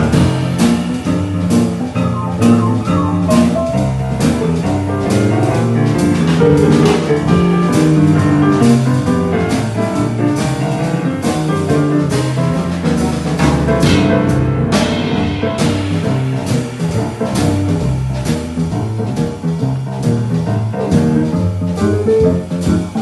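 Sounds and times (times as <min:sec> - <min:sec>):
boogie-woogie piano: 0:00.0 - 0:23.0.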